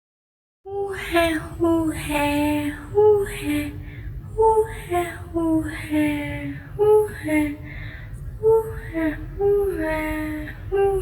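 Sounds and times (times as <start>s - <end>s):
faint low hum: 0.7s - 11.0s.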